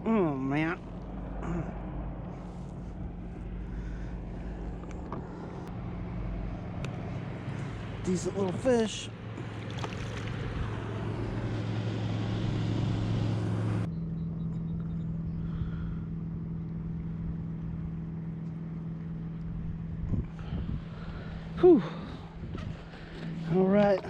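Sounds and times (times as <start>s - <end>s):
motorboat engine hum: 0.0s - 24.0s.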